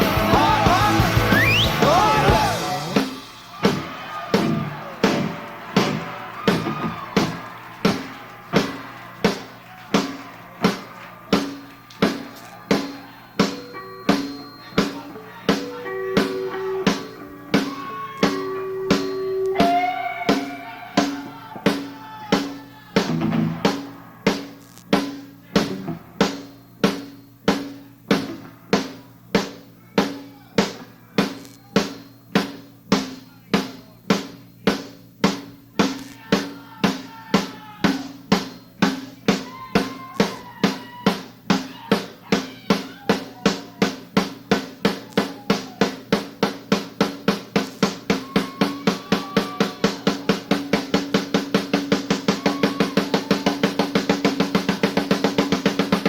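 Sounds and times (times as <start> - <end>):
drum hits: 0.0 - 56.0.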